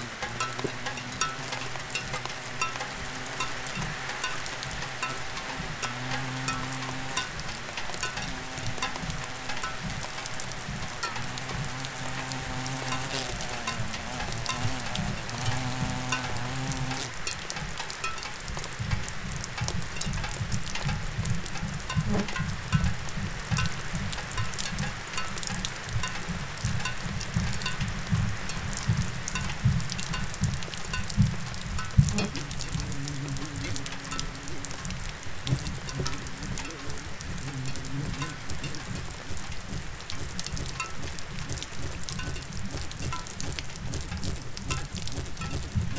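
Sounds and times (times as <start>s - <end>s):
wavering low tones: 0.0s - 17.4s, 19.6s - 44.0s
dense continuous crackling: 0.0s - 45.9s
rough low pulsing: 0.0s - 45.9s.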